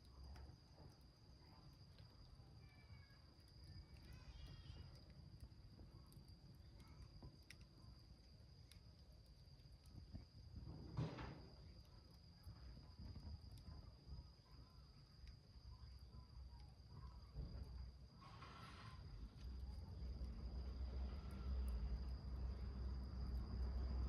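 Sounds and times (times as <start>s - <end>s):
small wood fire crackling: 0.0s - 24.0s.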